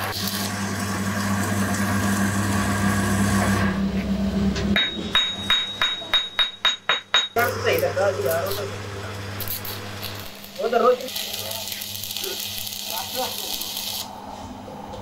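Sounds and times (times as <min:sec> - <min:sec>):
welding hum with crackle: 0:00.0 - 0:05.6, 0:07.2 - 0:15.0.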